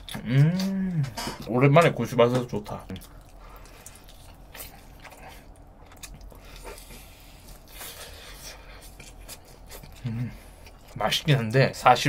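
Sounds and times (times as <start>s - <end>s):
chewing crispy chicken: 0.0s - 12.0s.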